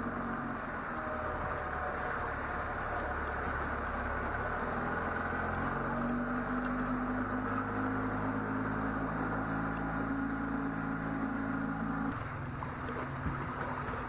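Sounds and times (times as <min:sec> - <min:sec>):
boat engine droning: 0:00.0 - 0:14.0
water rushing: 0:00.0 - 0:14.0.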